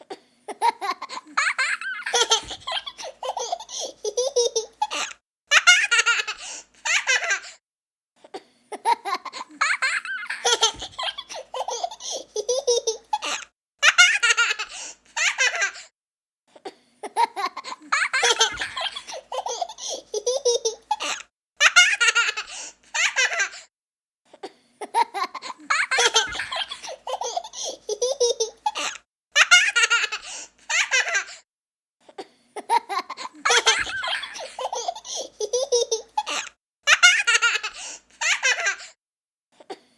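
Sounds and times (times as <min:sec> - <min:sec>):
young child laughing: 0:00.5 - 0:07.6, 0:08.8 - 0:15.9, 0:17.0 - 0:23.6, 0:24.8 - 0:31.4, 0:32.6 - 0:38.9.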